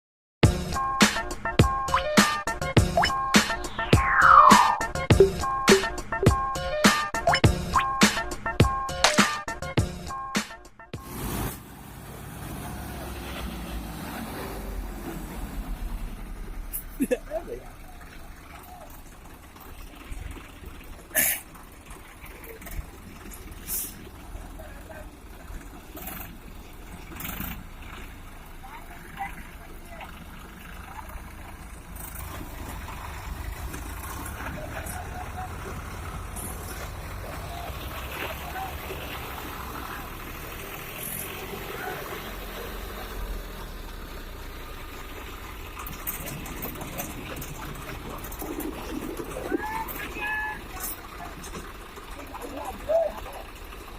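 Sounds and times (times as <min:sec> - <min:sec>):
tractor diesel engines rumbling: 0:00.4 - 0:53.9.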